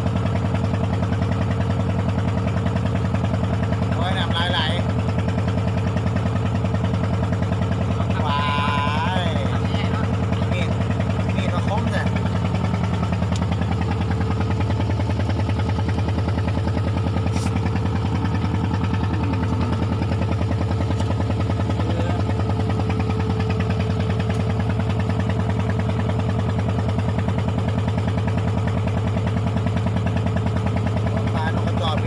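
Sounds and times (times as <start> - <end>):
boat engine throbbing: 0.0 - 32.0.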